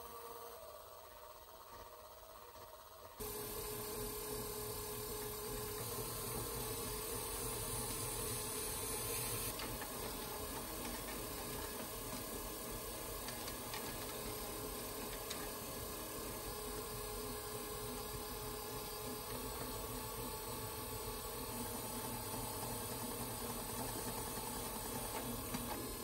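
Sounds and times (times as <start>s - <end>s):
potter's wheel humming: 0.0s - 26.0s.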